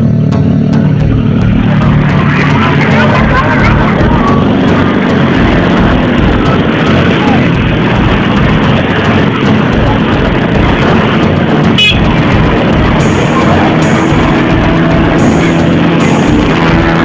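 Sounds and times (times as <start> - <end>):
busy street traffic: 0.0 - 17.0
horns tooting: 0.8 - 17.0.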